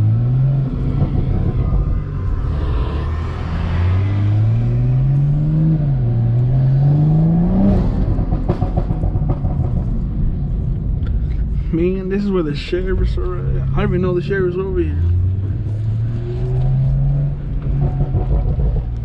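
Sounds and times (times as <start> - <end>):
car engine accelerating hard: 0.0 - 10.0, 13.2 - 19.0.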